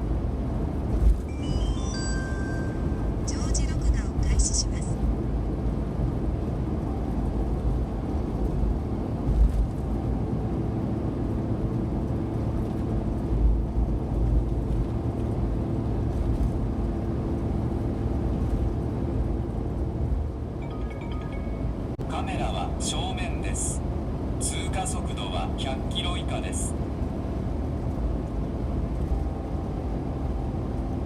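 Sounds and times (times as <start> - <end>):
road noise inside vehicle: 0.0 - 31.0
van engine hum: 0.0 - 31.0.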